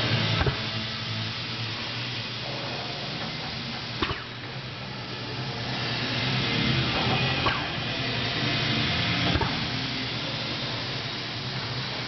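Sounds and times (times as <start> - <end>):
machine and air hiss: 0.0 - 12.0.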